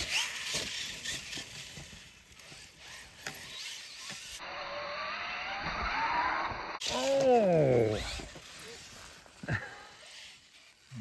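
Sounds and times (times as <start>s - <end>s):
toy truck electric motor whining: 0.0s - 11.0s.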